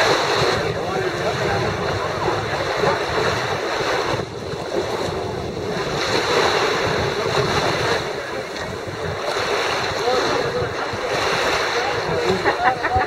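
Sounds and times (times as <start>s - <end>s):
water washing at shore: 0.0s - 13.0s
wind on microphone: 0.0s - 13.0s.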